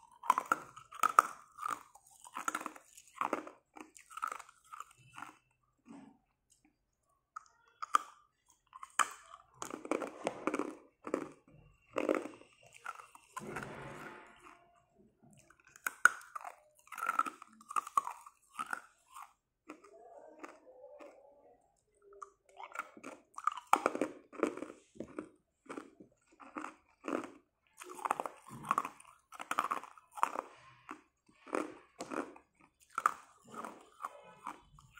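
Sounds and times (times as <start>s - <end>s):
ice crunching between teeth: 0.0s - 5.5s, 7.8s - 14.6s, 15.4s - 21.2s, 22.2s - 34.9s.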